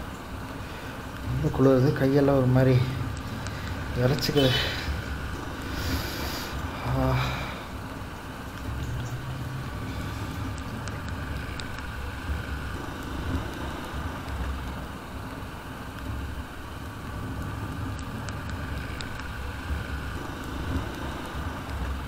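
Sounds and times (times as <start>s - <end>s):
tyre noise on wet road: 0.0s - 22.0s.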